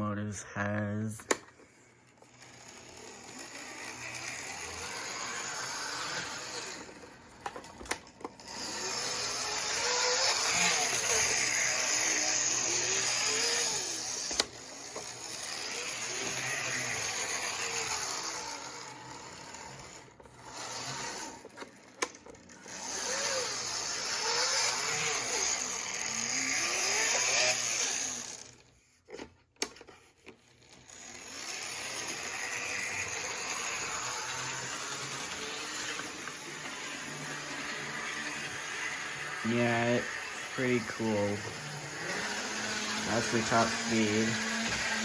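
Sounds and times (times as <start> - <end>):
toy trolley motor whining: 1.6 - 45.0.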